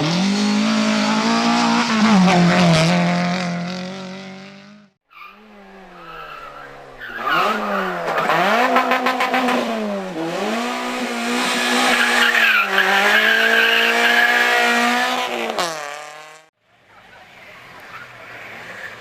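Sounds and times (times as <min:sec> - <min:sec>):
racing car engine revving: 0:00.0 - 0:16.5.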